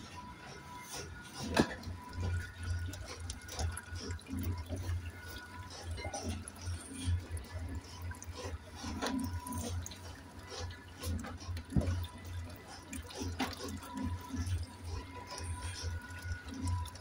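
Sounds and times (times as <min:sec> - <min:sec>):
oil dripping and trickling: 0:01.1 - 0:17.0.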